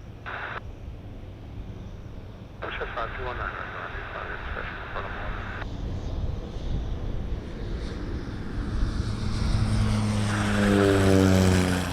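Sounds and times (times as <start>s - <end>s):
jet engines rumbling: 0.0s - 11.9s.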